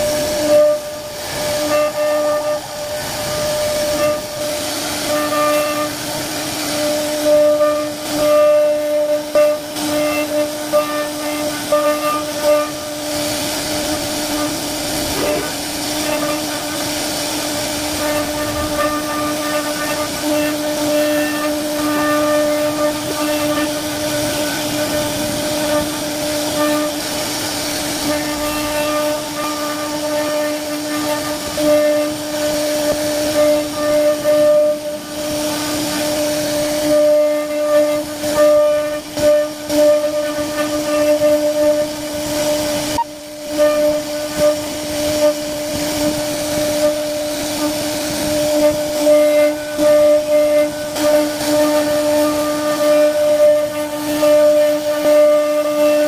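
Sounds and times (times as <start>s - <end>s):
hiss of bit cutting wood: 0.0s - 56.0s
router spindle high whine: 0.0s - 56.0s.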